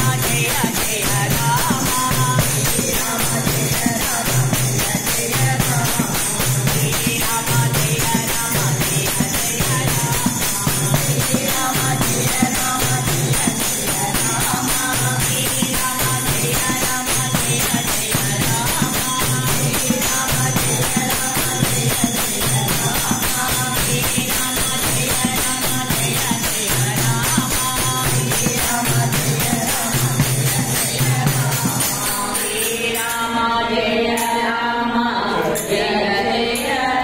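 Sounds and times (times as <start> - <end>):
hand cymbals clinking: 0.0 - 33.4
tambourine shaken and struck: 0.0 - 37.0
women chanting devotional song: 0.0 - 37.0.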